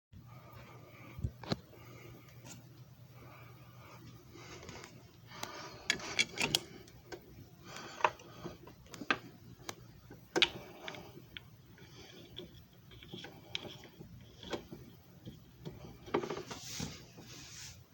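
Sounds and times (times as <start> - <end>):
faint low hum: 0.2 - 17.9.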